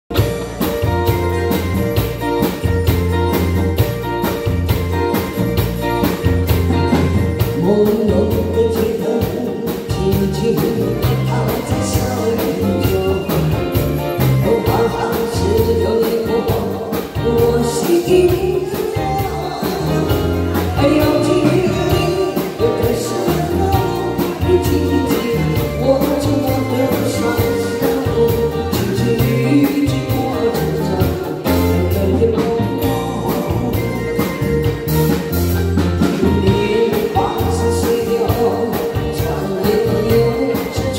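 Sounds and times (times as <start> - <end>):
live band playing: 0.1 - 40.9
woman singing: 6.1 - 34.7, 36.1 - 40.9.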